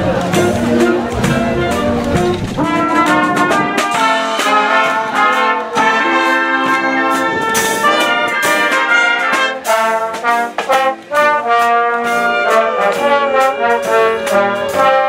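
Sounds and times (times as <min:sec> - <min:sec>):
military wind band playing: 0:00.0 - 0:15.0.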